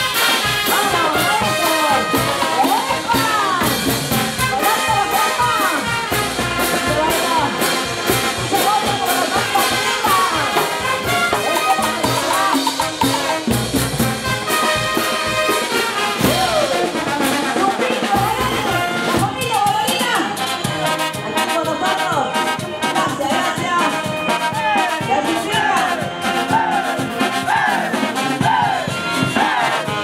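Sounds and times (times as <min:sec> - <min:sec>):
brass band playing dance tune: 0:00.0 - 0:30.0.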